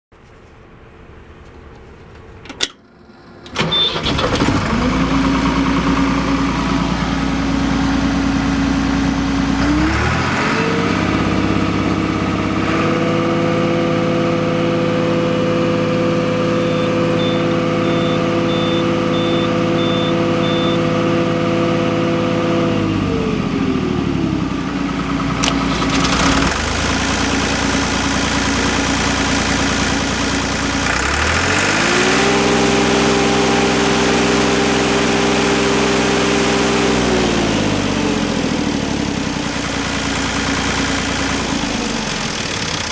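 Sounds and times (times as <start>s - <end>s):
diesel engine starting and idling: 0.4s - 42.9s
diesel engine revving: 3.4s - 42.9s.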